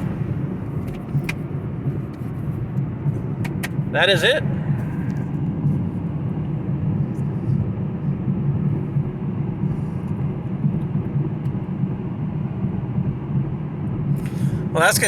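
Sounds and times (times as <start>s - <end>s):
car engine rumble in cabin: 0.0s - 15.0s
road noise: 0.0s - 15.0s.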